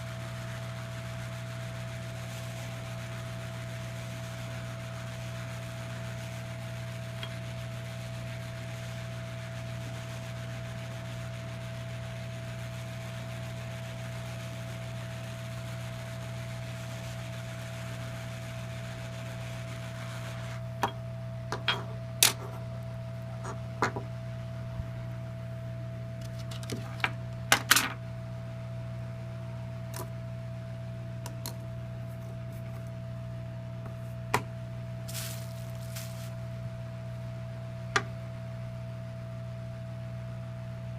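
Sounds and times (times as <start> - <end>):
electrical hum with hiss: 0.0 - 40.9.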